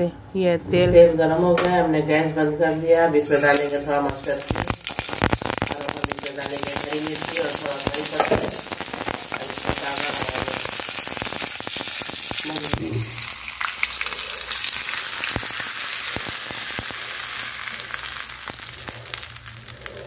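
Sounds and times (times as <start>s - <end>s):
spices sizzling in hot oil: 3.1s - 20.0s.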